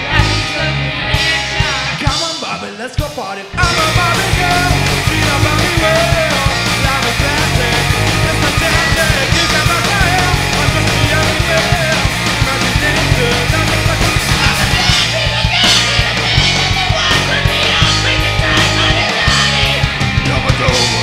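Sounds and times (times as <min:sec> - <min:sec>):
electric guitars: 0:00.0 - 0:02.2, 0:03.5 - 0:21.0
bass guitar: 0:00.0 - 0:21.0
drum kit: 0:00.0 - 0:21.0.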